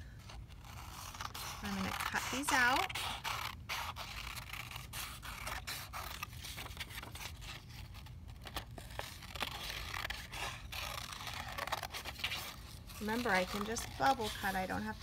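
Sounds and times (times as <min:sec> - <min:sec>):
paper rustling: 0:00.2 - 0:15.0
scissors snipping paper: 0:00.8 - 0:07.4, 0:08.6 - 0:15.0.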